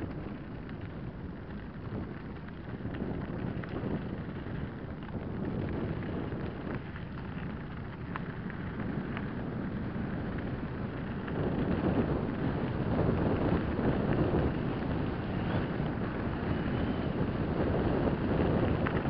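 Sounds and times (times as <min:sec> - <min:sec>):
stones ticking and rattling: 0:00.0 - 0:17.0, 0:18.1 - 0:19.0
bike tyres rolling on gravel: 0:00.0 - 0:19.0
wind rushing over microphone: 0:00.0 - 0:19.0.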